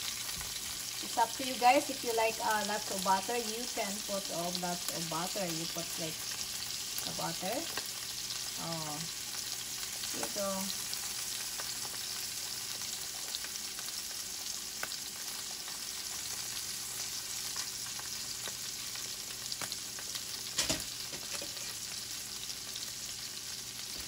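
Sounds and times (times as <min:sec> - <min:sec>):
fish sizzling in frying pan: 0:00.0 - 0:24.0.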